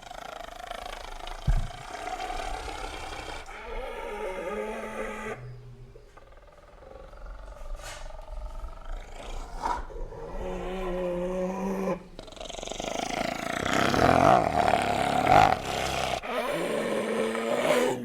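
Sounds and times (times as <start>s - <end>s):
animal pitched call: 0.0s - 5.6s, 6.2s - 18.0s
harsh rasping growl: 0.0s - 18.0s.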